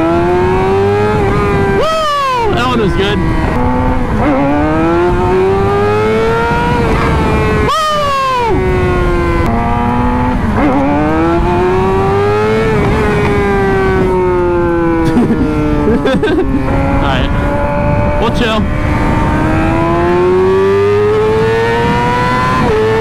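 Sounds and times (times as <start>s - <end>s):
high engine whine: 0.0s - 23.0s
motorcycle engine revving: 0.0s - 23.0s
wind noise: 0.0s - 23.0s.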